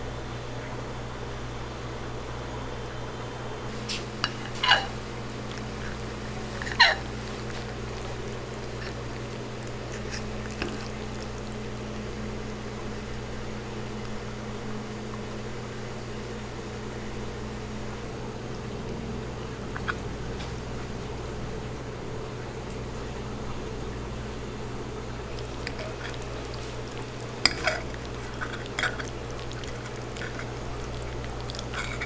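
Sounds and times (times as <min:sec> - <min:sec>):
kitchen equipment humming: 0:00.0 - 0:32.0.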